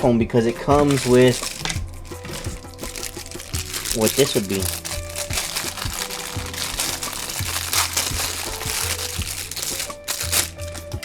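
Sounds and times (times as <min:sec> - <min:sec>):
background music with low bass: 0:00.0 - 0:11.0
plastic packaging crinkling: 0:00.0 - 0:11.0.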